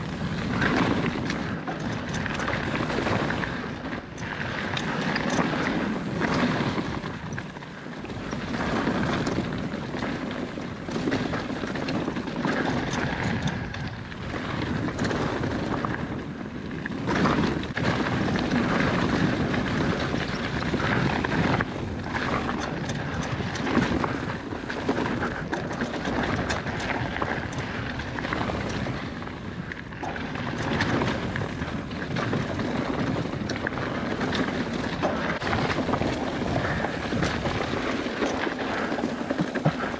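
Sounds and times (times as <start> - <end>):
bike rattling over bumps: 0.0 - 39.9
wind rushing over microphone: 0.0 - 39.9.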